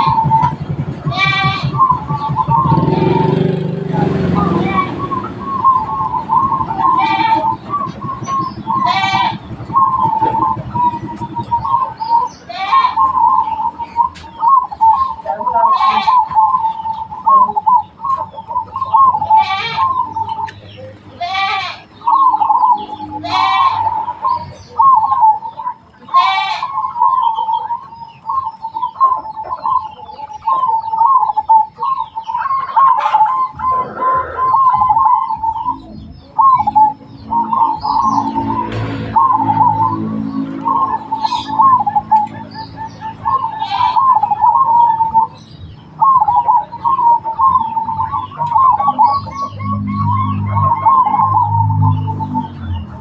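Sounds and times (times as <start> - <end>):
dove cooing: 0.0 - 53.0.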